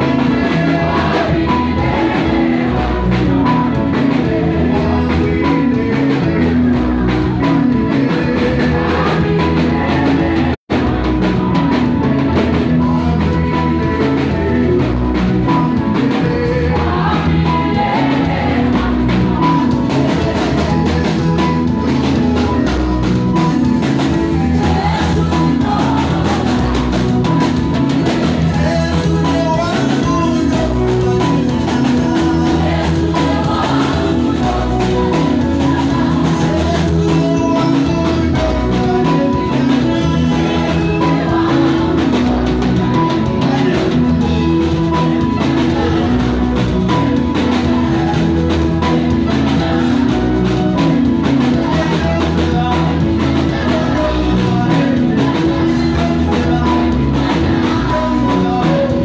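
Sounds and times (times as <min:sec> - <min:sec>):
backing vocalists singing: 0:00.0 - 0:12.0, 0:12.6 - 0:59.0
band with drums guitar keyboard: 0:00.0 - 0:59.0
lead singer: 0:00.0 - 0:59.0.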